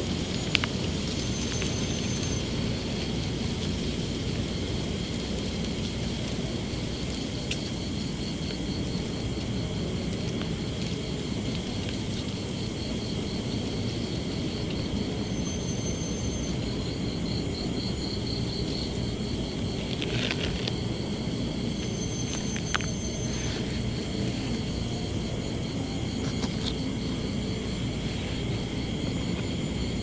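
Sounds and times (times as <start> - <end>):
insects trilling: 0.0 - 30.0
low rumbling noise: 0.0 - 30.0.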